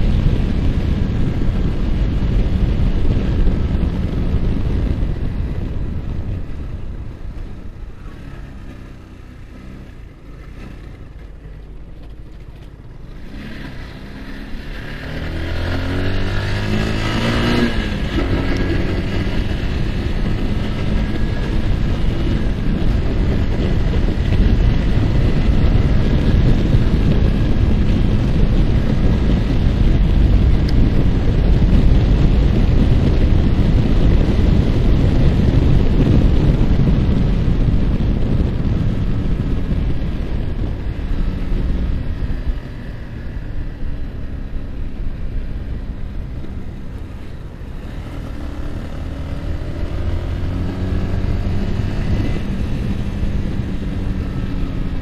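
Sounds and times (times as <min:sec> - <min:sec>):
motorcycle engine running: 0:00.0 - 0:55.0
wind rush over microphone: 0:00.0 - 0:55.0.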